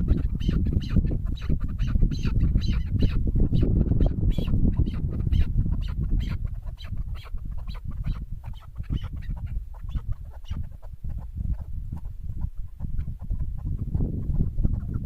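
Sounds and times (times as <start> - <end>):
partridge clucking calls: 0.0 - 15.0.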